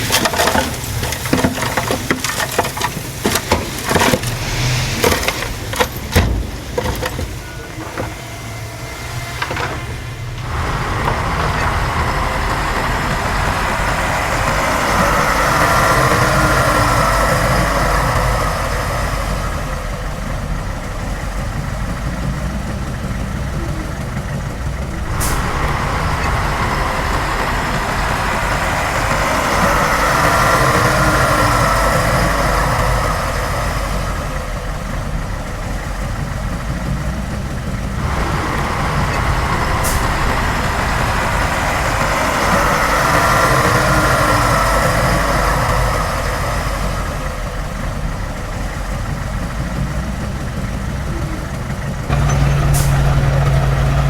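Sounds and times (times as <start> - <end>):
heavy diesel engine running: 0.0 - 54.0
machinery whine: 0.0 - 54.0.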